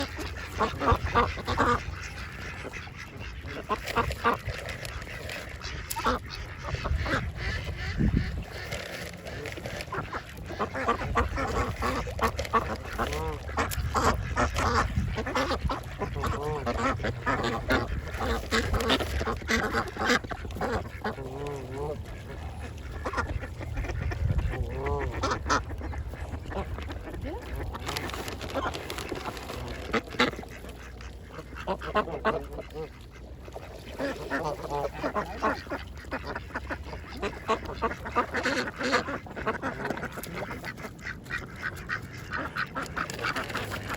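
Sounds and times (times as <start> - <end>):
ducks quacking: 0.0 - 43.9.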